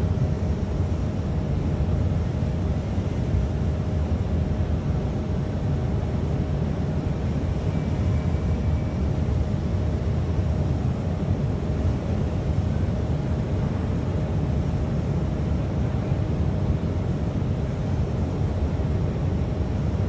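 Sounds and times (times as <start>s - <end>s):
faint steady hum: 0.0s - 20.0s
low rumbling background noise: 0.0s - 20.0s.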